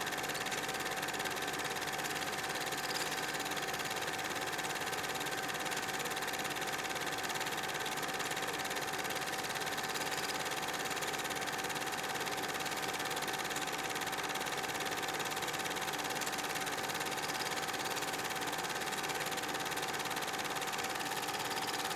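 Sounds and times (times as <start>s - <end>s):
movie projector whirring: 0.0s - 21.9s.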